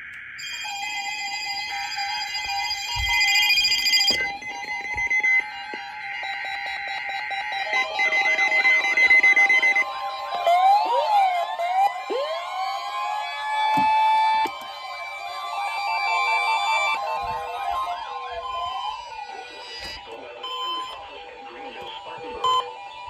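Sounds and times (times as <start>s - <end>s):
electronic alarm tones: 0.0s - 23.0s
siren-like sweeping tones: 0.0s - 23.0s.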